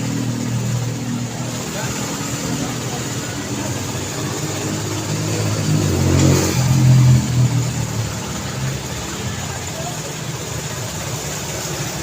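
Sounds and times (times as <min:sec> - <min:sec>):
road traffic hum: 0:00.0 - 0:12.0
vehicle engine passing close by: 0:00.0 - 0:12.0.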